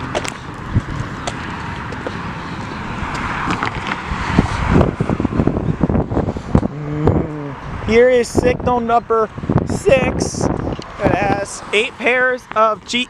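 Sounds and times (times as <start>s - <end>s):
road traffic passing: 0.0s - 13.0s
wind buffeting microphone: 0.0s - 13.0s.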